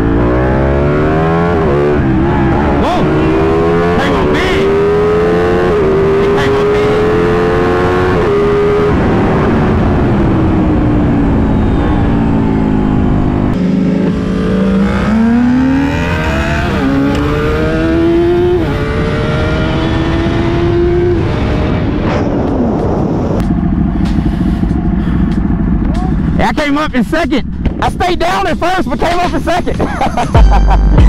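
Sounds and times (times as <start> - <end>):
low wind noise: 0.0 - 30.4
motorcycle engine accelerating: 0.0 - 31.0.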